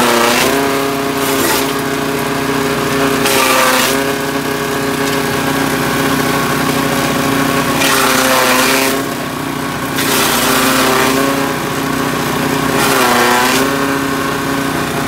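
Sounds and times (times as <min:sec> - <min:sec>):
chopper blades shredding branches: 0:00.0 - 0:15.0
small petrol engine running: 0:00.0 - 0:15.0.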